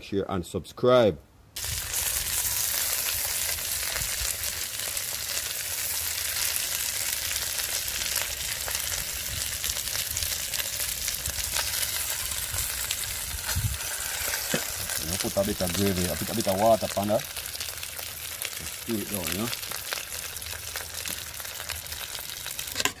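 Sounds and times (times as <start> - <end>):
hot oil sizzling: 1.6 - 23.0.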